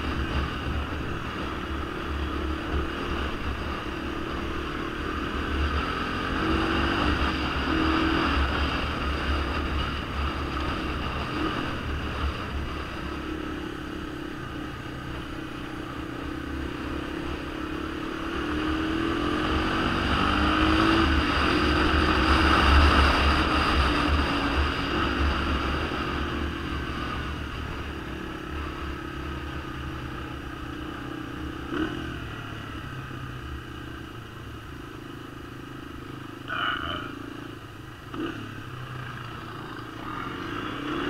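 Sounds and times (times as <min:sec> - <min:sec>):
off-road engines rumbling: 0:00.0 - 0:41.0.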